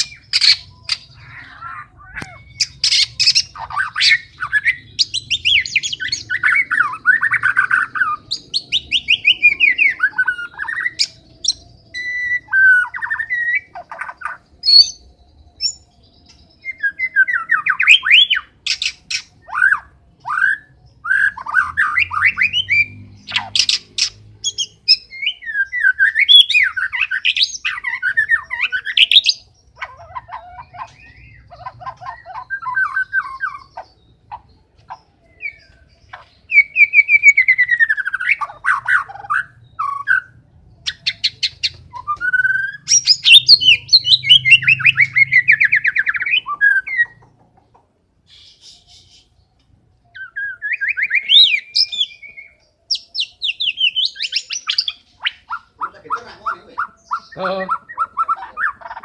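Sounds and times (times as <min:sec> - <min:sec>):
songbird singing whistles and trills: 0:00.0 - 0:47.4, 0:48.3 - 0:59.0.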